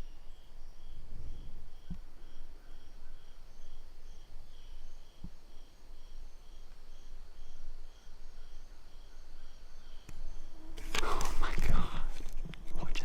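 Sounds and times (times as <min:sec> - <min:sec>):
insects pulsing chorus: 0:00.1 - 0:13.0.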